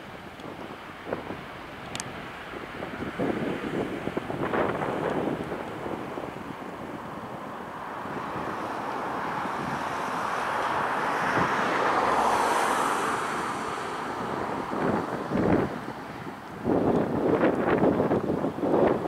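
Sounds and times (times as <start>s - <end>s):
jet engines at takeoff: 0.0s - 19.0s
wind buffeting microphone: 0.0s - 19.0s.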